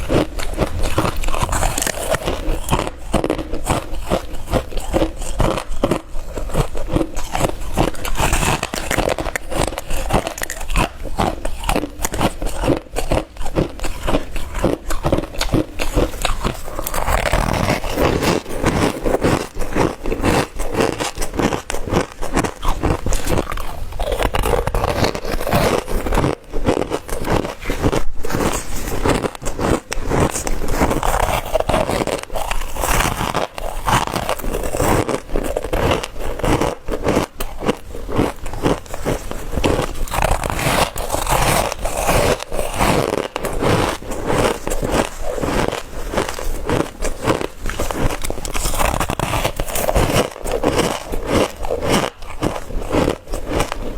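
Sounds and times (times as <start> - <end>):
crushed ice crunching: 0.0 - 53.9.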